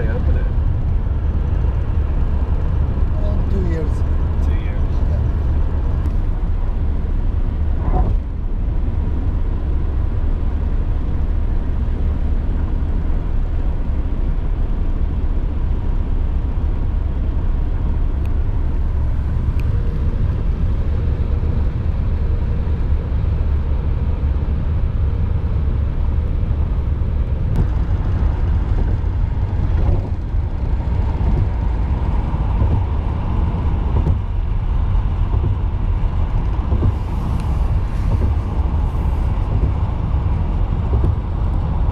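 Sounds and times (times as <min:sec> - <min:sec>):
vehicle interior rumble: 0:00.0 - 0:41.9.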